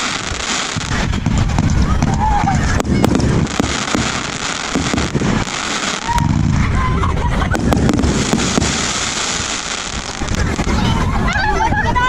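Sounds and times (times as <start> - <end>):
continuous rumble: 0.0 - 12.0
fireworks bangs and crackles: 0.0 - 12.0.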